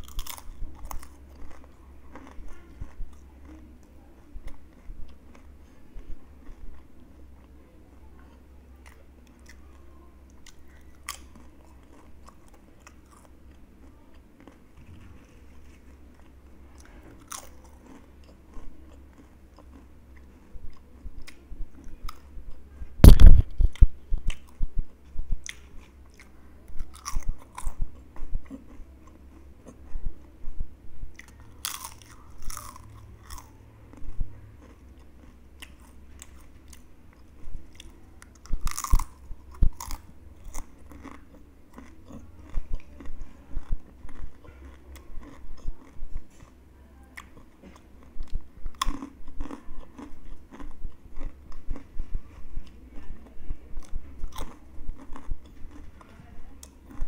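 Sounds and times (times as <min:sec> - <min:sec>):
chewing crunchy chips: 0:00.0 - 0:07.6, 0:08.2 - 0:30.4, 0:31.1 - 0:57.0.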